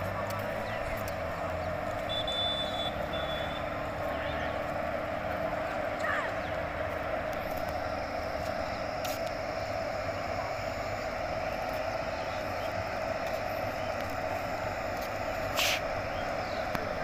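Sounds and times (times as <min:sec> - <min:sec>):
electric locomotive humming: 0:00.0 - 0:17.0
train wheels rumbling on rails: 0:00.0 - 0:17.0.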